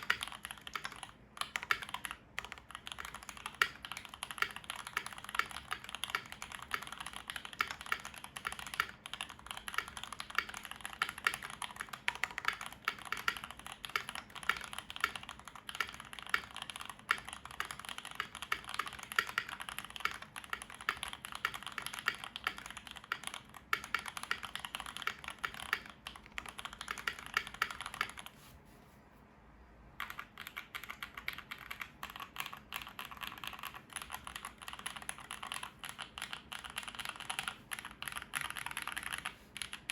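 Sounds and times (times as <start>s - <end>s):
mechanical keyboard typing: 0.0s - 28.3s, 30.0s - 39.9s.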